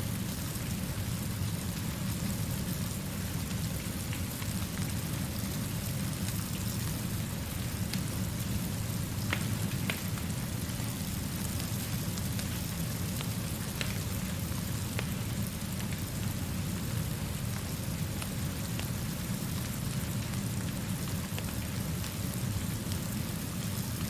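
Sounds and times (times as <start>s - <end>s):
steady rainfall: 0.0s - 24.0s.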